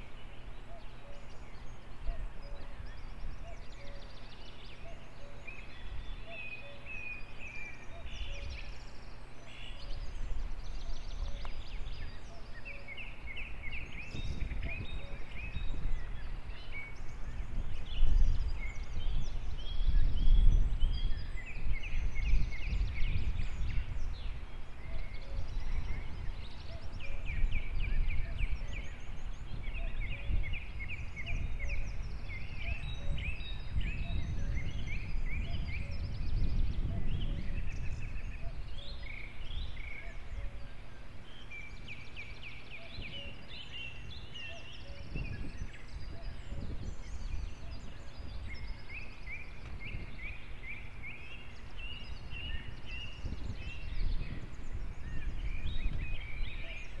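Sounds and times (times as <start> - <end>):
birds chattering calls: 0.0 - 57.0.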